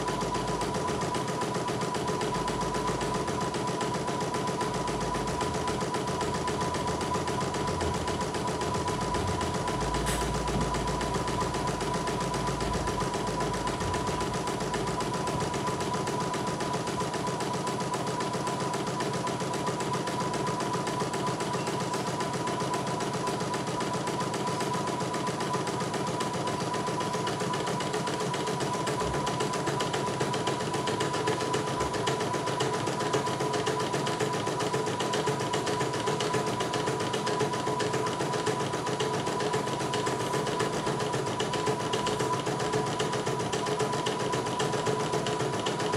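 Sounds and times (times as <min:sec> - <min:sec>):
embroidery machine needle stitching: 0:00.0 - 0:45.9
steady motor hum: 0:00.0 - 0:45.9.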